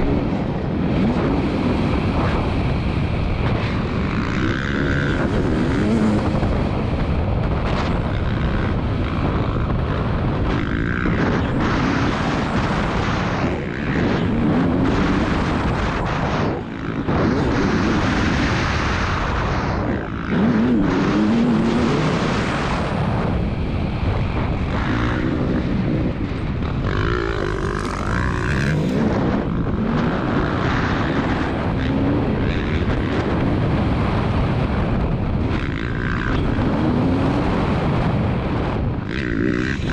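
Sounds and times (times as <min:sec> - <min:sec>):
two-stroke motocross engine revving: 0:00.0 - 0:39.9.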